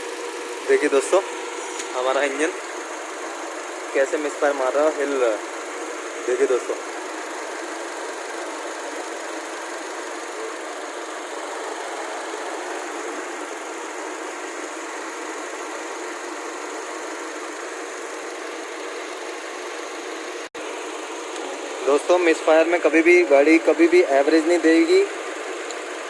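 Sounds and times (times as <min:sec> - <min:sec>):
car engine idling roughly: 0:00.0 - 0:26.0.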